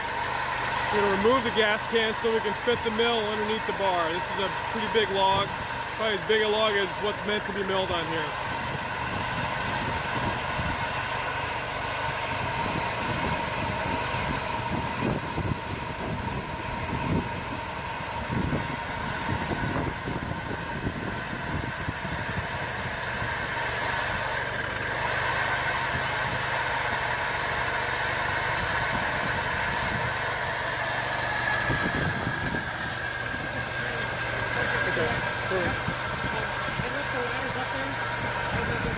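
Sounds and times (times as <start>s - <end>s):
sawmill engine running under load: 0.0s - 38.9s.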